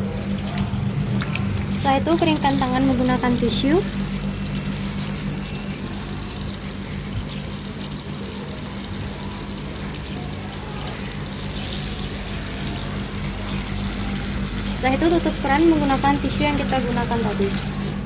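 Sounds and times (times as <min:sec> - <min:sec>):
low hum: 0:00.0 - 0:18.0
tap water running into sink: 0:00.0 - 0:18.0.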